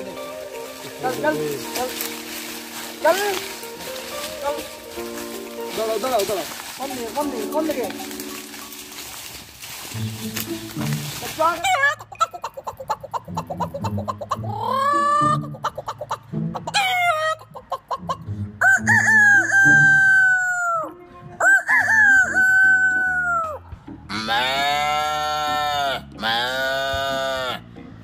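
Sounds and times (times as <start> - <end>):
background music: 0.0 - 28.0.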